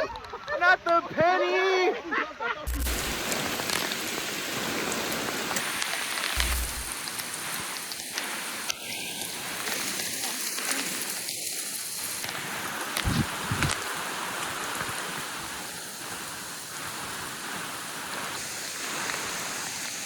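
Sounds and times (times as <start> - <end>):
heavy rain falling: 2.7 - 20.0.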